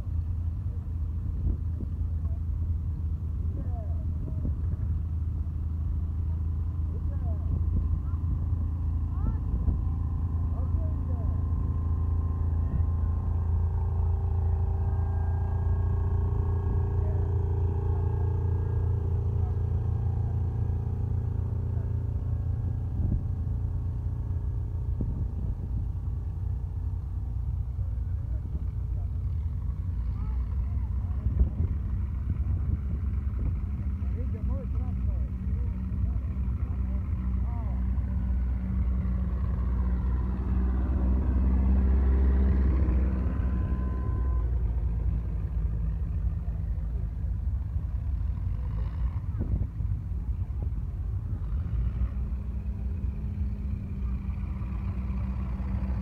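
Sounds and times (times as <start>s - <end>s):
tractor engine rumbling: 0.0s - 56.0s.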